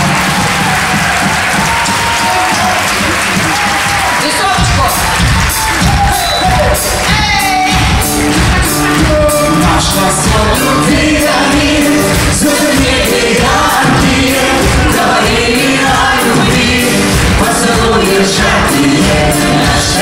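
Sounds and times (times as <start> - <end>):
live pop song with singing: 0.6 - 20.0.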